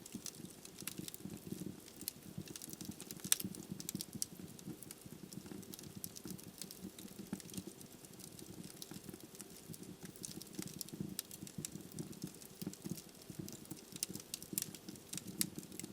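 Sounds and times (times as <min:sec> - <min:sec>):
burning logs crackling and popping: 0:00.0 - 0:15.9.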